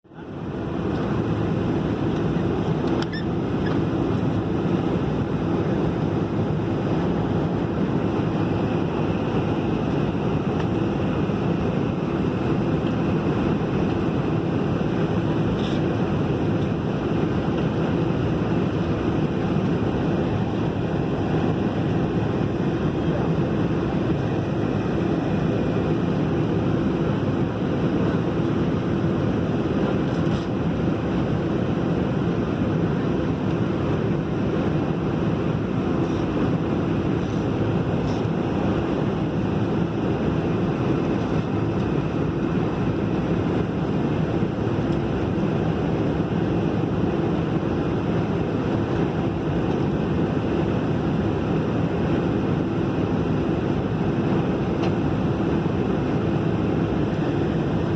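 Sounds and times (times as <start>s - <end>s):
jet engines running: 0.0s - 57.9s.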